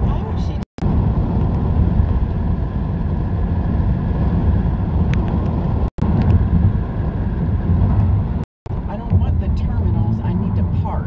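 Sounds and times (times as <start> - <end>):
car tyre and road rumble: 0.0 - 11.0.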